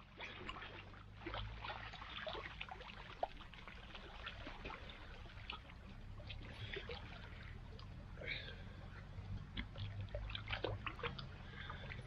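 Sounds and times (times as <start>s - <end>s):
creek water trickling and splashing: 0.0s - 12.0s
low steady rumble: 0.0s - 12.0s.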